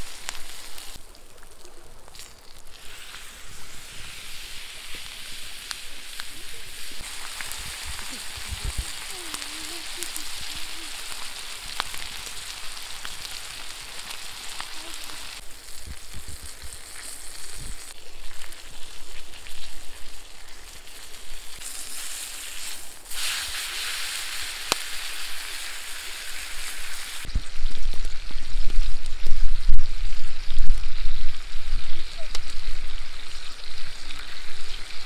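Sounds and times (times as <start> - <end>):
steak sizzling: 0.0 - 35.0.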